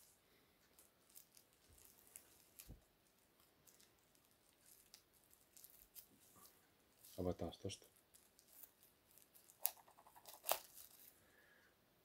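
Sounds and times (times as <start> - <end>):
bubble wrap crinkling: 0.0 - 11.4.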